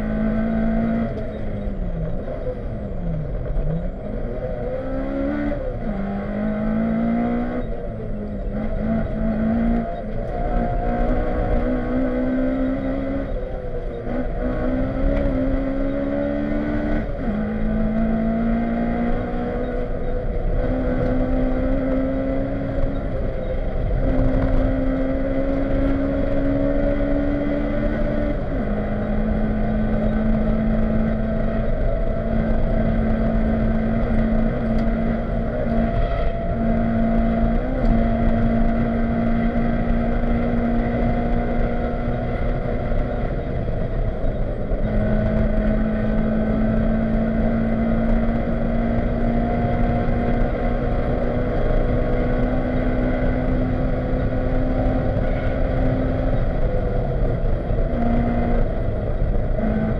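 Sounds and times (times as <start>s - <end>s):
car engine running hard: 0.0s - 59.9s
road and tyre noise: 0.0s - 59.9s.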